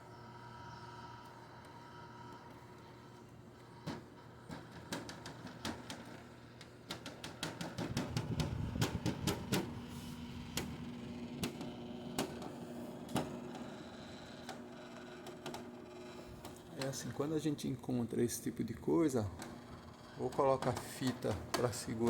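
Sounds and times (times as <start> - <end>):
air conditioner low hum: 0.0 - 22.0.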